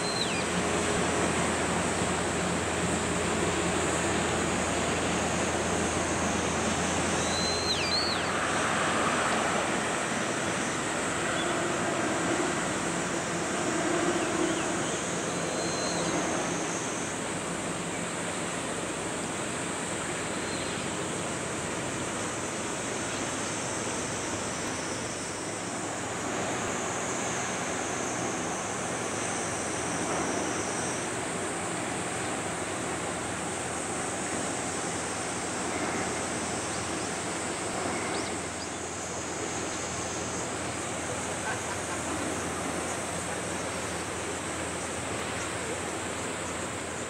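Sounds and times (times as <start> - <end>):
wind: 0.0 - 47.0.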